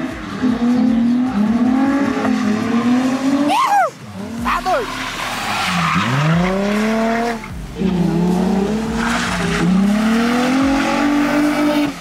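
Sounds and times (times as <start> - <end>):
car engine revving hard: 0.0 - 3.5, 4.1 - 12.0
tyres sliding on wet road: 0.0 - 12.0.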